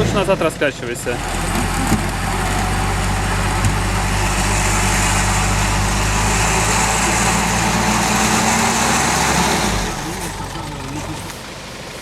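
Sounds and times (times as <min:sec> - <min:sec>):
suv engine running under load: 0:00.0 - 0:12.0.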